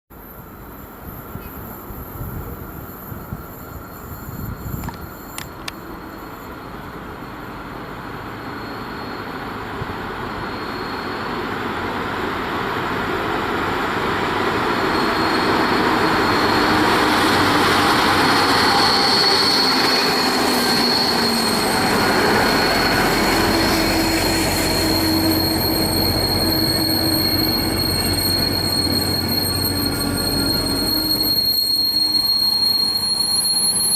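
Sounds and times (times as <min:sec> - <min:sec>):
train approaching and braking: 0:00.1 - 0:33.9
high-pitched brake squeal: 0:00.8 - 0:33.9.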